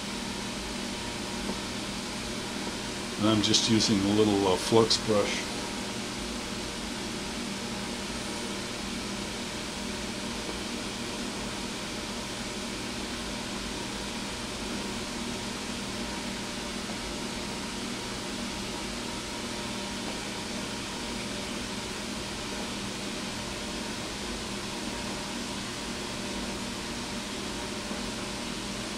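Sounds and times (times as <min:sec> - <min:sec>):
mechanical hum and hiss: 0:00.0 - 0:28.9.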